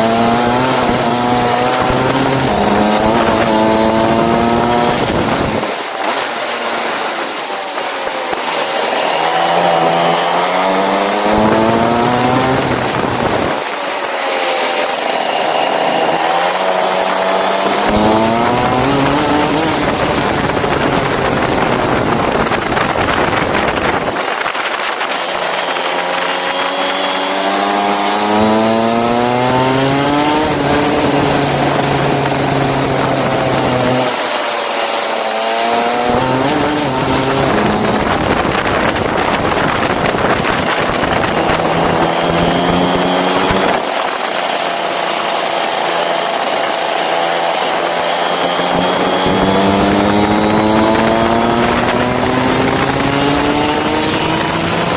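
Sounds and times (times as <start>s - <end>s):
go-kart engine accelerating: 0.0s - 54.9s.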